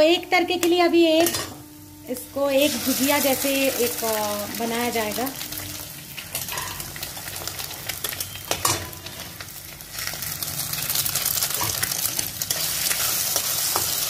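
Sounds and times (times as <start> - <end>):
onion and tomato frying in oil: 0.0 - 14.0.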